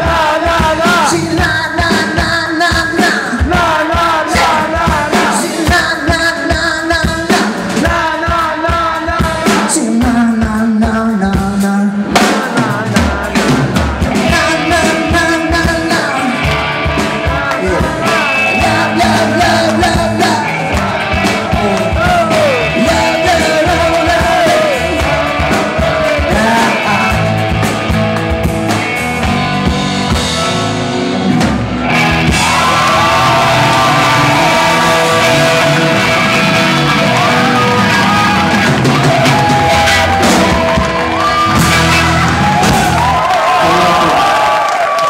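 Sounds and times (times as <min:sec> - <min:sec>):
man singing: 0:00.0 - 0:27.6, 0:32.1 - 0:40.7
live rock band: 0:00.0 - 0:45.0.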